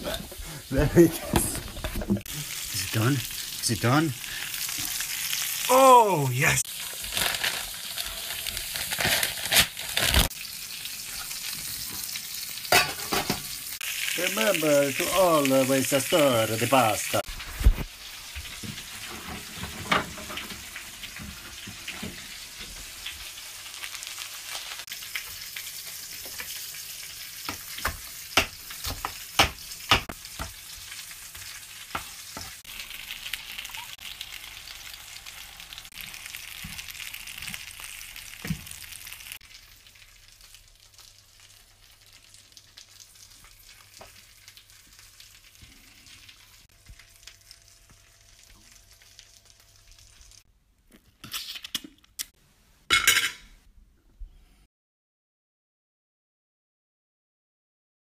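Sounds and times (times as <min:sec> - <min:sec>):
food sizzling in a pan: 0:00.0 - 0:50.5.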